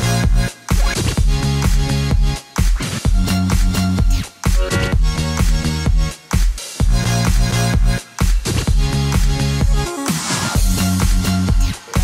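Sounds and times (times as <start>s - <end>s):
kick drum beat: 0.0s - 9.9s, 10.6s - 12.0s.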